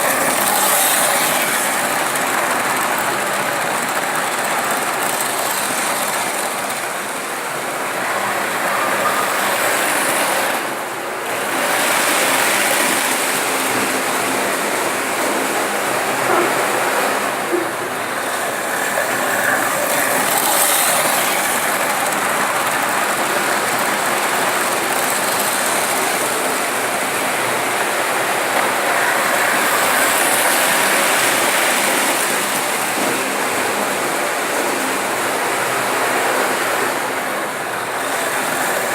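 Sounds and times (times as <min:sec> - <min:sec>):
electric motor: 0:00.0 - 0:38.9
model train wheels on rail: 0:00.0 - 0:38.9.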